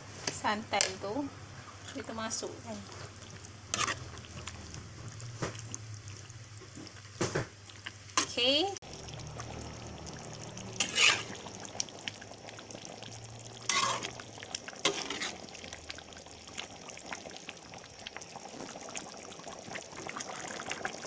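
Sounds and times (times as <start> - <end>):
stew bubbling in a pot: 0.1 - 21.0
short bubbling bursts: 2.7 - 21.0.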